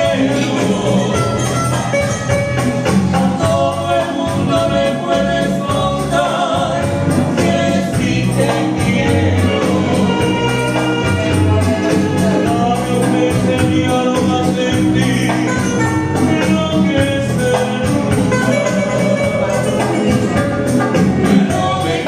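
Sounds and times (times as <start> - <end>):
man singing: 0.0 - 22.0
musical accompaniment: 0.0 - 22.0
shaken percussion beat: 0.0 - 22.0.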